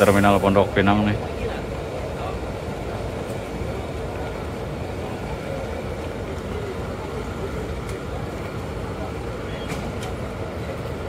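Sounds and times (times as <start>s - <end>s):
bus engine idling: 0.0s - 11.0s
faint voices: 0.0s - 11.0s.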